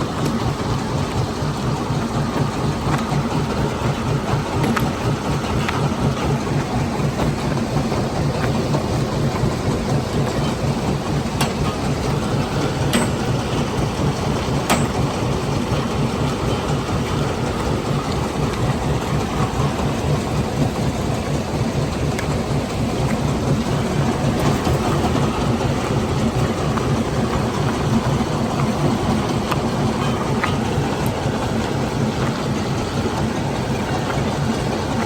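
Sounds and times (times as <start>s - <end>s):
rock and gravel rattling: 0.0s - 35.0s
stone-crushing machinery running: 0.0s - 35.0s.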